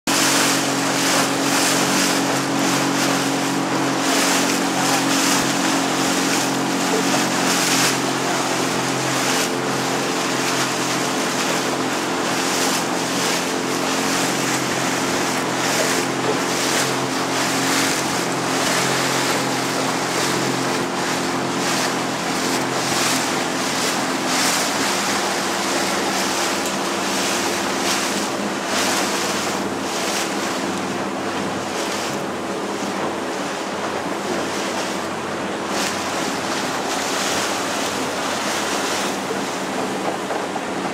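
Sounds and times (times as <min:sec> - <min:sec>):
motorboat engine running: 0:00.0 - 0:40.9
water splashing on hull: 0:00.1 - 0:40.9.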